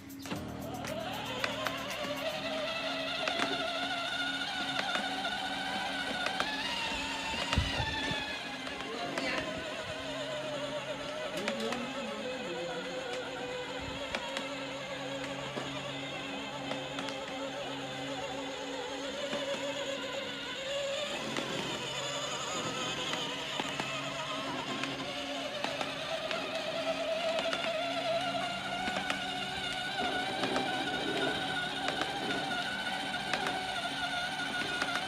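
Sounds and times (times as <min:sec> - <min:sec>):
electric toy car motors whining: 0:00.0 - 0:35.0.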